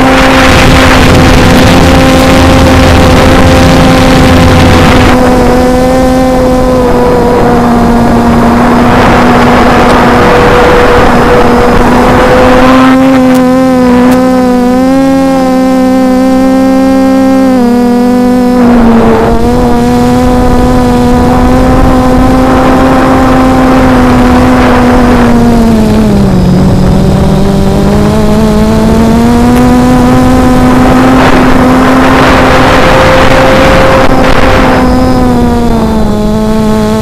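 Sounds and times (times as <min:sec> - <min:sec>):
rushing noise: 0:00.0 - 0:14.7, 0:17.9 - 0:37.0
quadcopter motors whining: 0:00.0 - 0:37.0.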